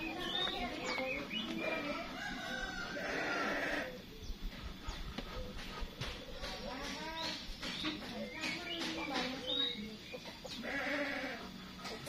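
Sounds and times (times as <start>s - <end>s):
birds clucking and chirping: 0.0s - 12.0s.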